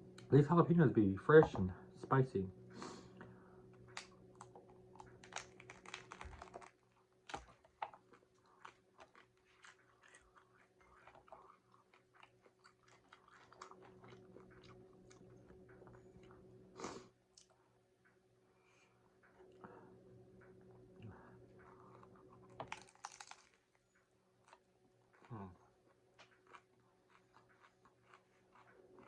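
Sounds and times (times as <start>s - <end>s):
chewing crunchy taco shell: 3.6s - 17.7s, 18.9s - 29.0s.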